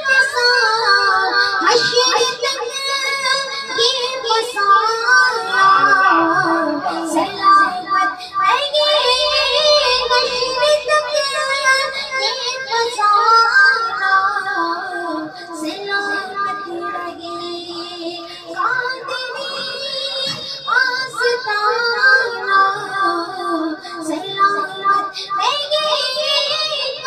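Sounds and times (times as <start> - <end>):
boy singing into microphone: 0.0 - 27.0.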